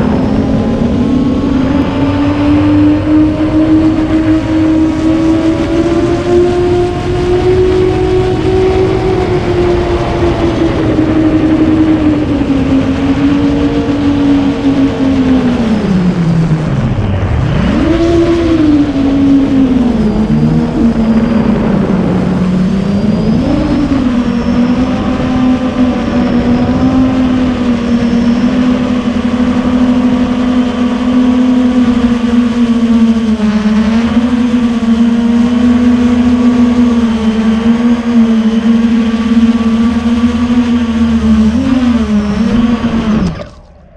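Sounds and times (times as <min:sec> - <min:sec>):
drone motors and propellers whirring: 0:00.0 - 0:43.9.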